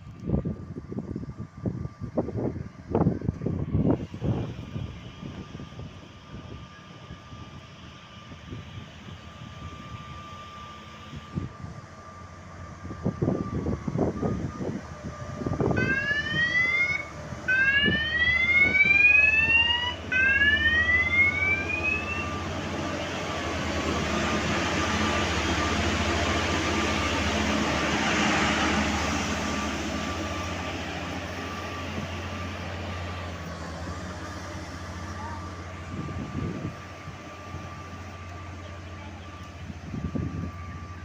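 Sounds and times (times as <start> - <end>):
engine droning: 0.0 - 41.0
machine siren wails: 4.7 - 41.0.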